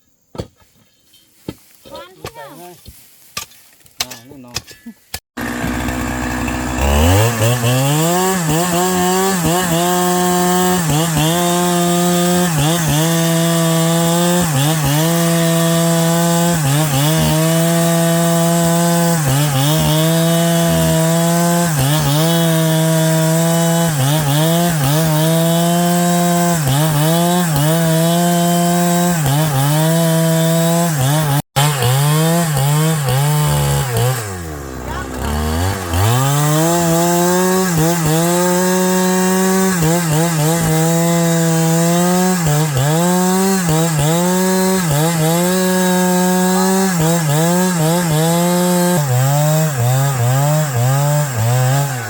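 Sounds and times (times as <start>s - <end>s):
chainsaw cutting wood: 5.3s - 52.0s.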